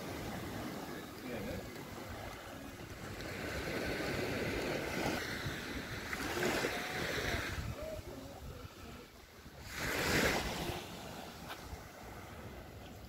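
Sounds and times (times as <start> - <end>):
waves lapping on rocky shore: 0.0 - 13.0
wind rumbling on microphone: 1.5 - 13.0.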